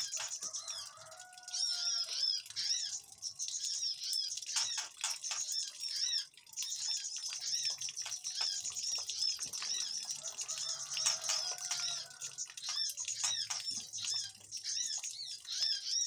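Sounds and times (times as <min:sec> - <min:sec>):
birds chirping in chorus: 0:00.0 - 0:16.0.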